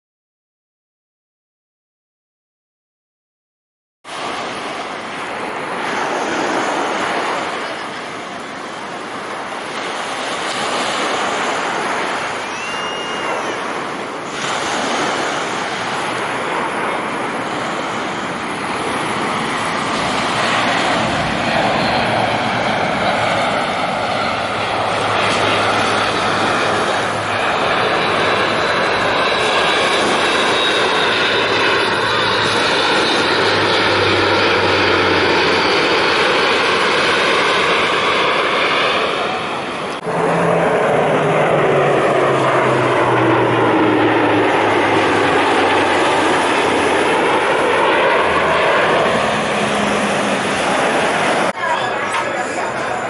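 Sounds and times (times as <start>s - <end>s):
low propeller hum: 4.0s - 53.0s
turboprop aircraft drone: 4.1s - 53.0s.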